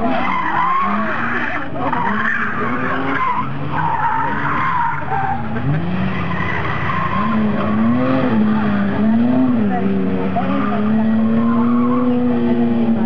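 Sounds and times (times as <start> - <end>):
tyres squealing on tarmac: 0.0 - 12.7
car engine revving: 0.0 - 13.0.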